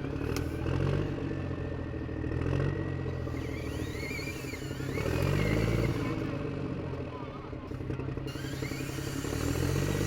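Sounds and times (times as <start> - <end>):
engine running and revving: 0.0 - 10.0.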